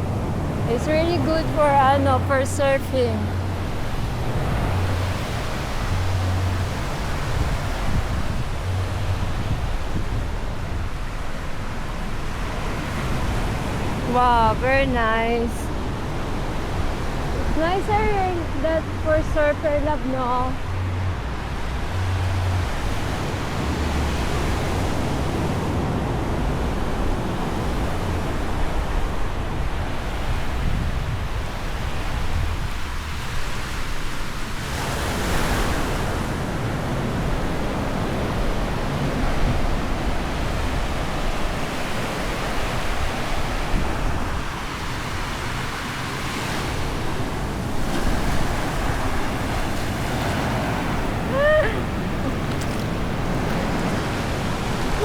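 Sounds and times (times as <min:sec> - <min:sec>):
ocean surf breaking: 0:00.0 - 0:55.0
wind on microphone: 0:00.0 - 0:55.0.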